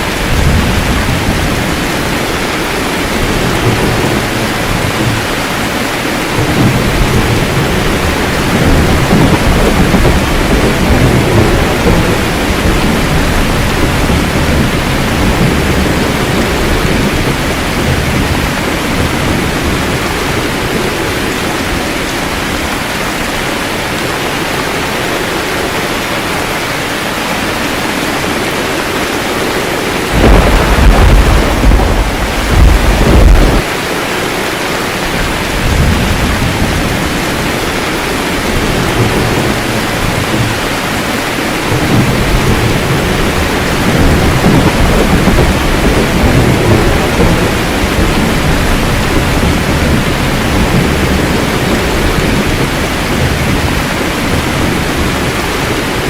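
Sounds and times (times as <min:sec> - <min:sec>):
rolling thunder: 0:00.0 - 0:22.8, 0:27.9 - 0:33.7, 0:35.0 - 0:56.0
heavy rain: 0:00.0 - 0:56.0.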